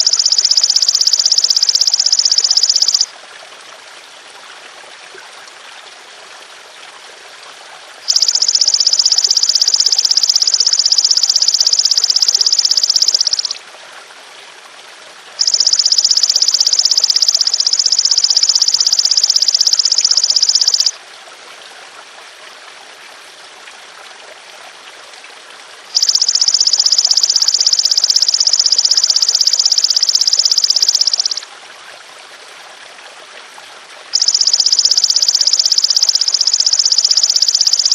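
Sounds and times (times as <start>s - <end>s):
trickling water: 0.0s - 37.9s.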